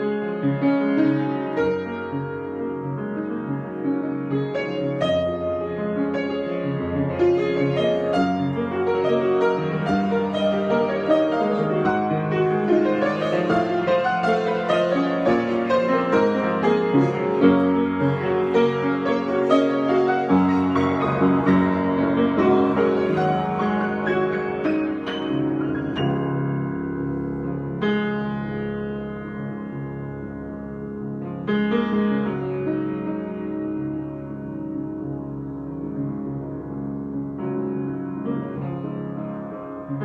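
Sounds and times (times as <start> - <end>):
solo piano improvisation: 0.0 - 40.0.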